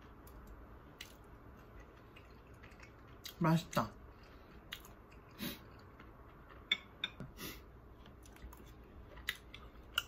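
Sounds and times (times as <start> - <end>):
quiet chewing of food: 0.0 - 3.4, 4.0 - 10.0.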